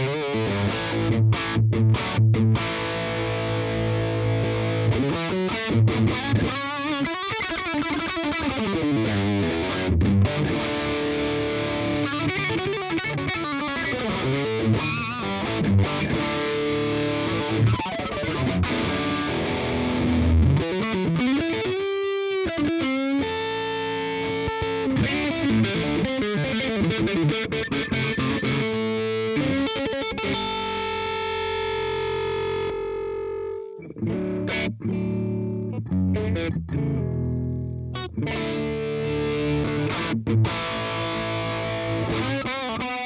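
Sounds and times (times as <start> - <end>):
overdriven electric guitar: 0.0 - 43.0.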